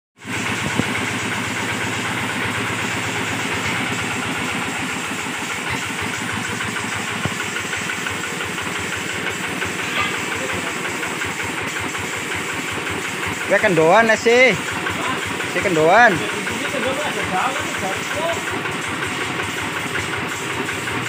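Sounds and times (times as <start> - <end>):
diesel engine knocking: 0.2 - 21.0.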